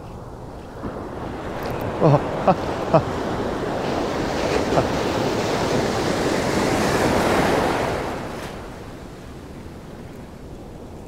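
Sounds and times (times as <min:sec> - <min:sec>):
surf washing in shallows: 0:00.0 - 0:11.0.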